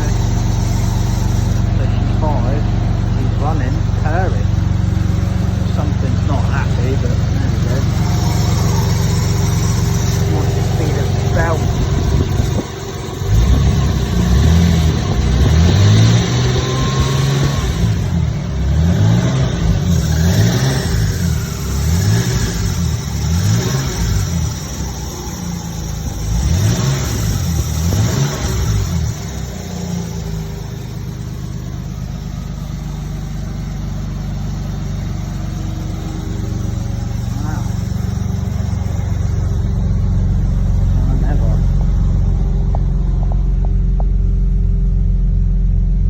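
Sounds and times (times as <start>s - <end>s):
car engine revving and idling: 0.0s - 46.0s.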